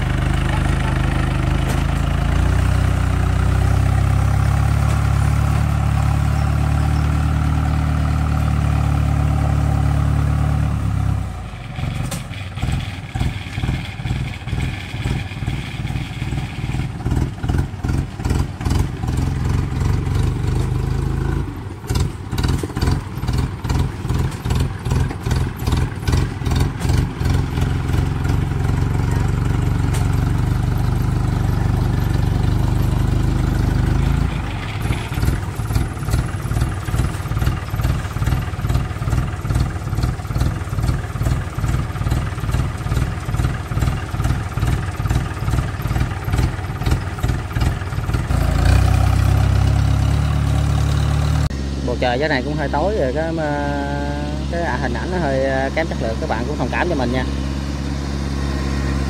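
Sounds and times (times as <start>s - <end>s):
tractor engine working hard: 0.0s - 59.0s.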